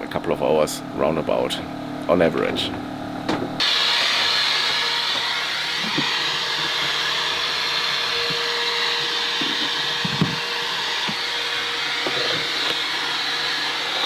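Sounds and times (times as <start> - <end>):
vacuum cleaner running: 2.4 - 14.0.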